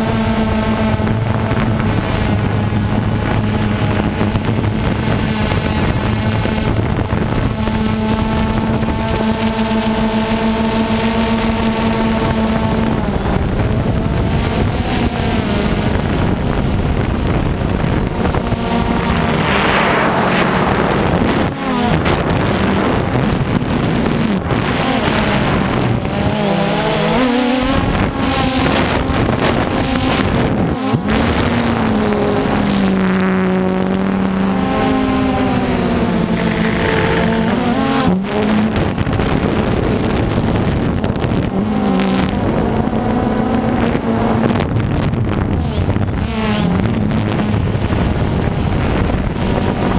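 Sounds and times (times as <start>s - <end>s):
drone motors buzzing: 0.0s - 49.9s
wind over microphone: 0.0s - 49.9s.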